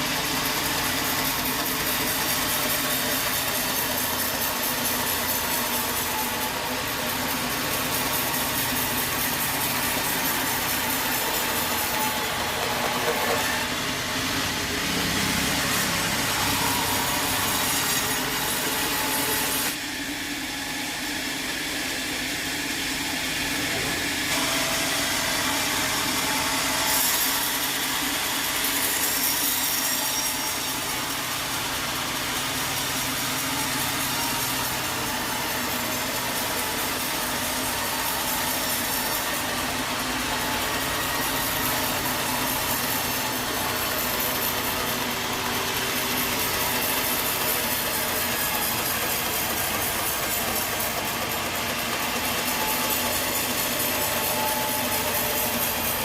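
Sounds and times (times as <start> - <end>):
saw cutting wood: 0.0 - 56.0.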